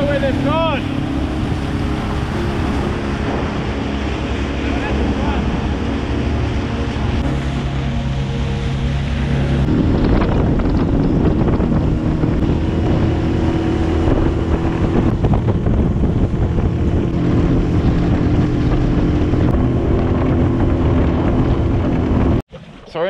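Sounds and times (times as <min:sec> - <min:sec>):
wind buffeting microphone: 0:00.0 - 0:22.8
outboard motor running: 0:00.0 - 0:22.9
water rushing past hull: 0:00.0 - 0:23.0.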